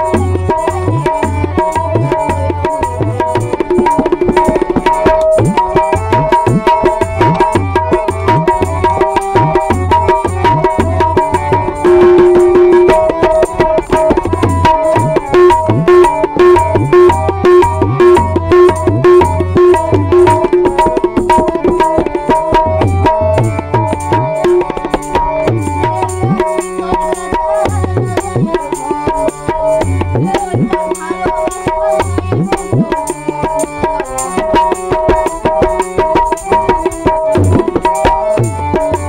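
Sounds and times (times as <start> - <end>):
harmonium melody: 0.0 - 39.0
tabla drumming: 0.0 - 39.0.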